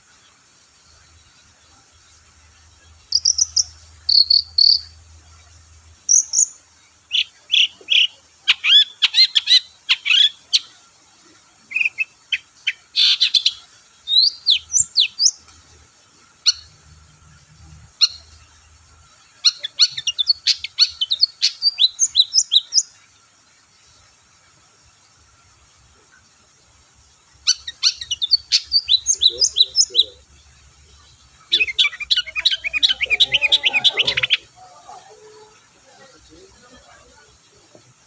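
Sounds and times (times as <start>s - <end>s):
bird singing high chirps and trills: 0.0s - 38.0s.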